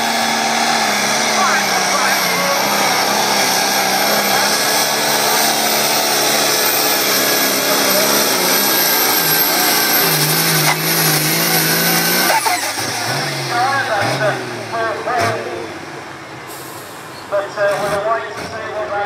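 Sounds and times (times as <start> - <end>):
tractor engine under load: 0.0 - 19.0.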